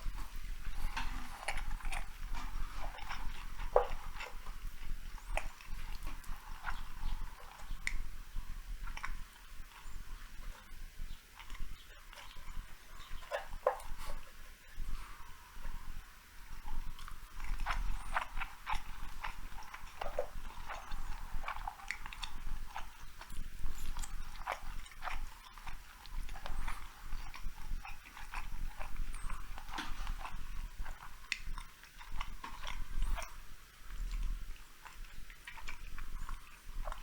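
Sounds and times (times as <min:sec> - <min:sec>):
mouth chewing food: 0:00.0 - 0:37.0.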